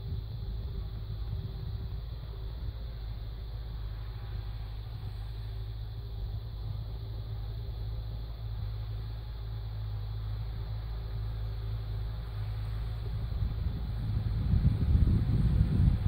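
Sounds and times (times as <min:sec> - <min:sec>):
distant tractor diesel engine: 0:00.0 - 0:16.0.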